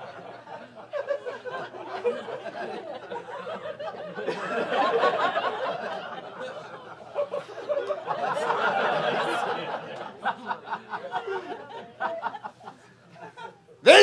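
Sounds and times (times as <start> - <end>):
audience laughing: 0.0 - 14.0.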